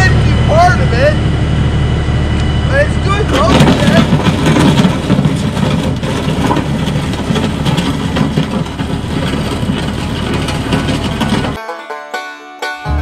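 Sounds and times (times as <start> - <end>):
tractor diesel engine running: 0.0 - 11.6.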